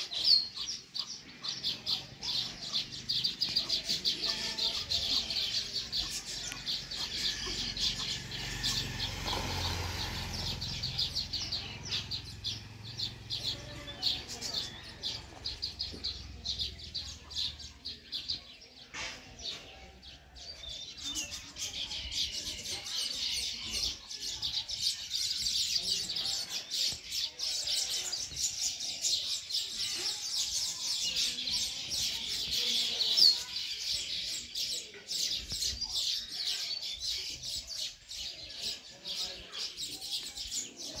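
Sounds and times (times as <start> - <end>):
weaver birds chattering: 0.0 - 41.0.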